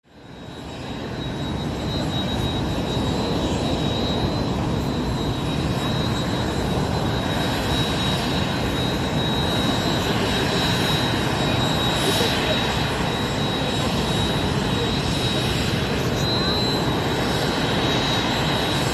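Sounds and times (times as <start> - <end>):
helicopter engine and rotor noise: 0.0 - 18.9.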